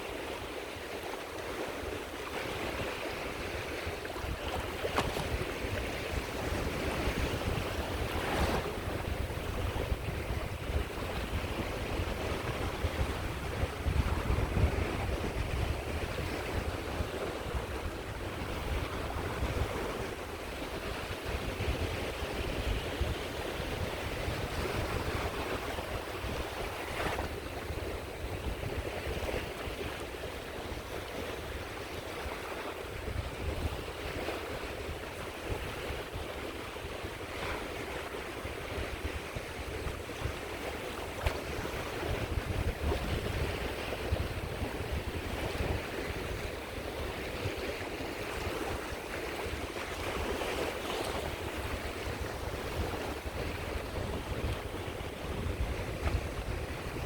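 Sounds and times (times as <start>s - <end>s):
sea waves washing onto shore: 0.0s - 57.0s
wind rumble on microphone: 0.0s - 57.0s.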